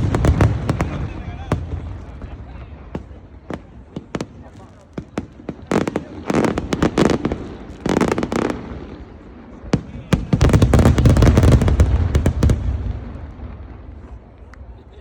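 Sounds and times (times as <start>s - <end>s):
deep fireworks booms: 0.0s - 14.4s
fireworks bangs and crackles: 0.0s - 15.0s.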